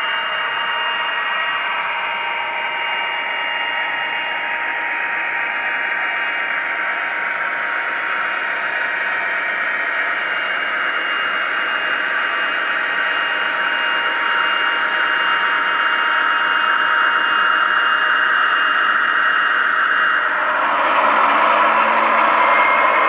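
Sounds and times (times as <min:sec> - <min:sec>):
model locomotive diesel engine sound: 0:00.0 - 0:23.0.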